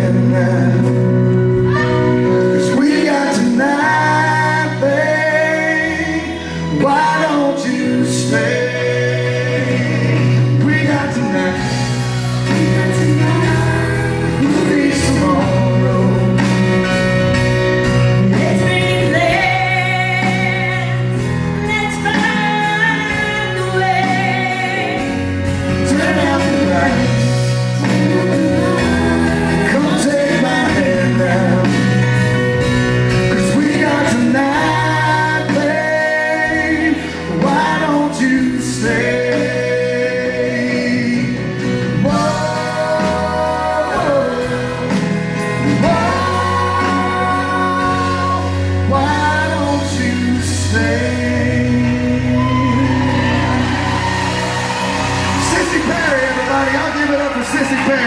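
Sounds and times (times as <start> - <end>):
man and woman singing duet: 0.0 - 17.1, 17.8 - 58.0
live band playing a ballad: 0.0 - 58.0.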